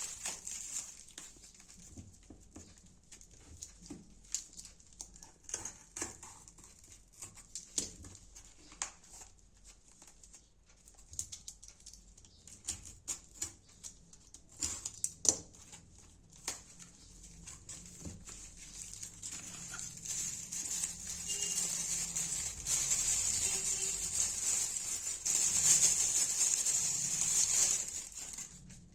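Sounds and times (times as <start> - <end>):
packaging rustling and clicks: 3.2 - 28.9.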